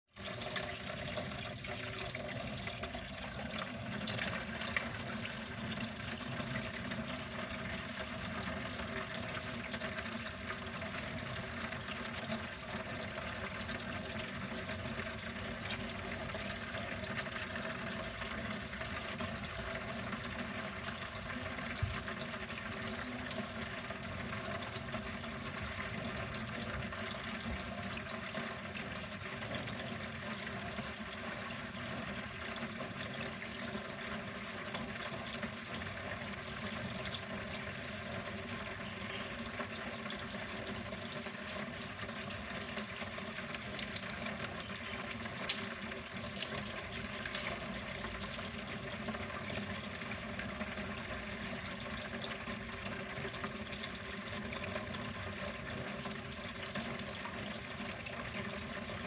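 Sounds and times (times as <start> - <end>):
water running: 0.1 - 59.0.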